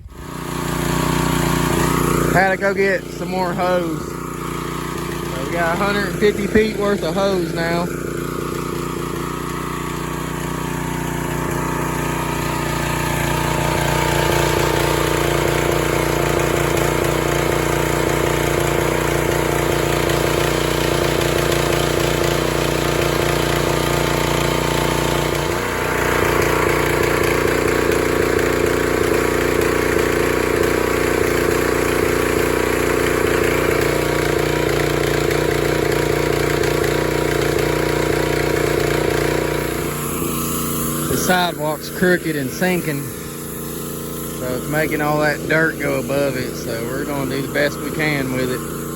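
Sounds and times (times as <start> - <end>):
pressure washer engine running: 0.0 - 48.9
water jet hissing: 0.2 - 48.9.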